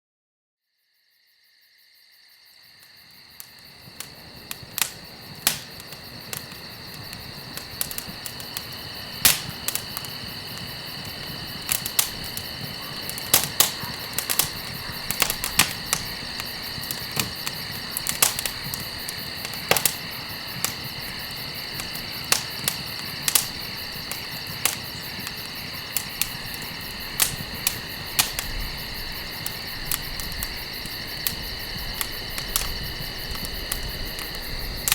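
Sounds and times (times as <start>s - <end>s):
crickets chirping: 0.7s - 34.9s
campfire crackling and popping: 2.8s - 34.9s.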